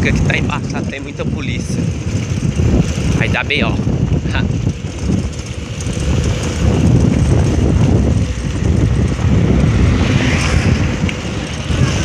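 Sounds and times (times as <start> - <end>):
bicycle rolling fast: 0.0 - 12.0
wind buffeting microphone: 0.0 - 12.0.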